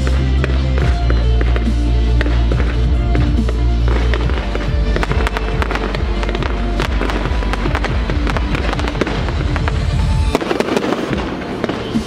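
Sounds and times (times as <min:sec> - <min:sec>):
fireworks bangs and crackling: 0:00.0 - 0:12.0
music playing: 0:00.0 - 0:12.0.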